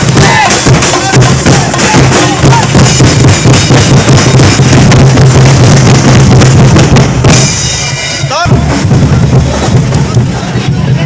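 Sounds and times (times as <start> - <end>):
loud music with heavy drums: 0.0 - 11.0.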